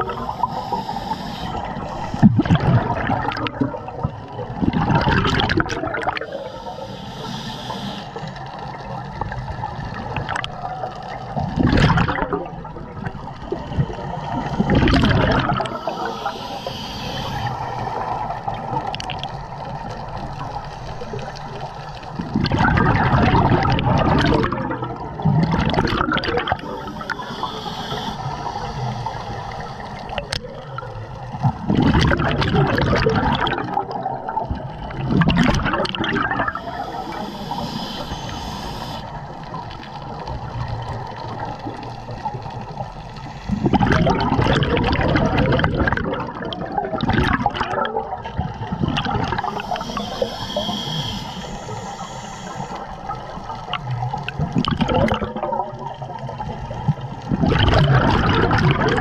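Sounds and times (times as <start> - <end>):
regulator air bubbles bursting: 0.0 - 6.6, 7.2 - 19.4, 21.1 - 28.4, 29.9 - 59.0
watery wash: 0.0 - 59.0.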